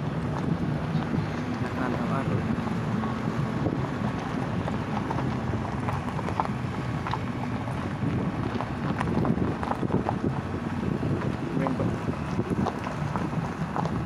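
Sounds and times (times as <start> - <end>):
tyres and engine rumble: 0.0 - 14.0
stones knocking under wheels: 0.1 - 11.4.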